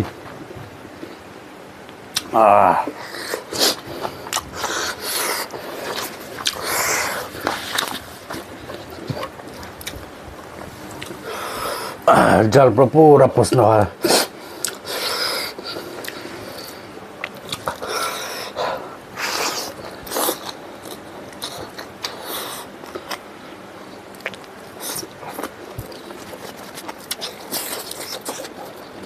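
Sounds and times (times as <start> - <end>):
man chewing food: 0.0 - 12.1, 14.0 - 29.0.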